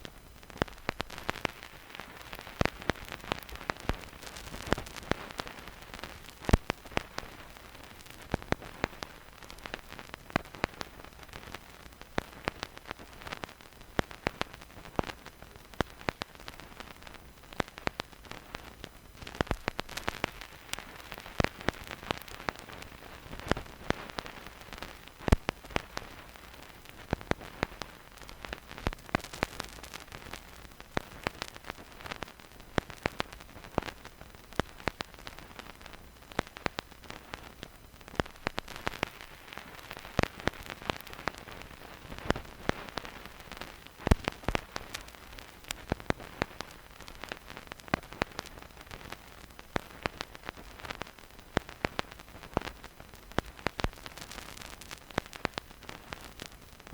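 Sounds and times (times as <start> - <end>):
vinyl crackles and pops: 0.0 - 56.9
vinyl stylus hiss: 0.0 - 56.9.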